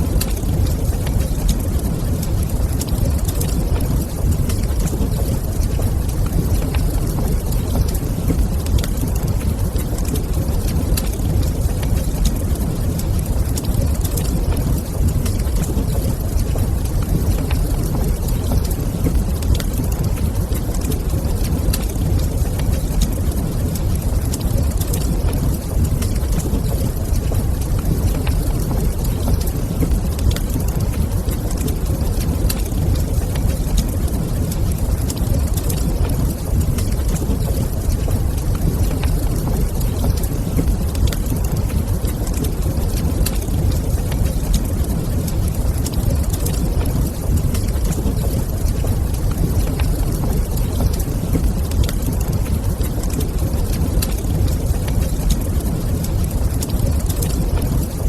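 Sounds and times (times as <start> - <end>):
fire crackling and popping: 0.0 - 58.0
fire flames rumbling: 0.0 - 58.0.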